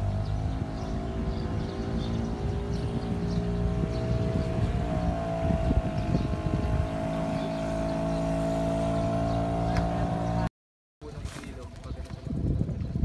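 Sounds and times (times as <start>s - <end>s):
boat motor droning: 0.0s - 10.5s.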